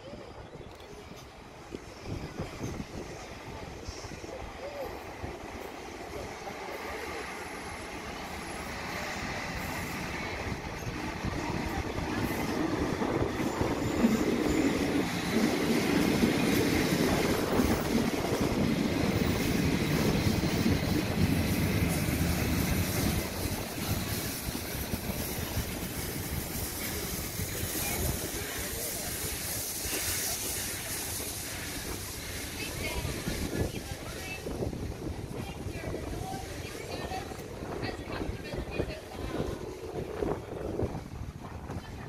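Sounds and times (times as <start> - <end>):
train wheels rumbling on rails: 0.1 - 42.0.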